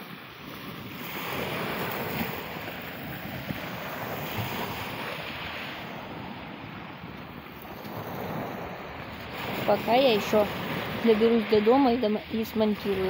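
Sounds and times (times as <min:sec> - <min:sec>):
waves washing up pebble beach: 0:00.0 - 0:06.9, 0:07.5 - 0:13.0
wind buffeting microphone: 0:00.0 - 0:13.0.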